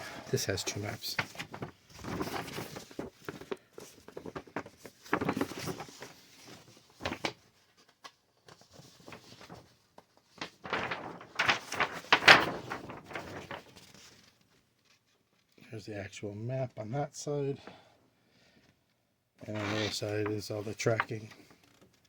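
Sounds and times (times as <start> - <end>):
paper rustling and crinkling: 0.3 - 15.5, 19.4 - 22.0.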